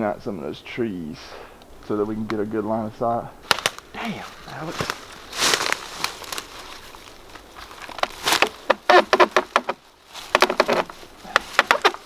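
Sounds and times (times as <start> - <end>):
rustling: 1.6 - 12.0.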